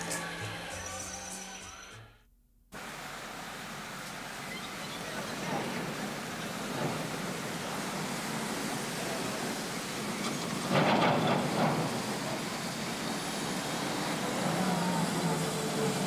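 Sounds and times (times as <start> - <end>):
traffic rumble and hiss: 2.8 - 16.0.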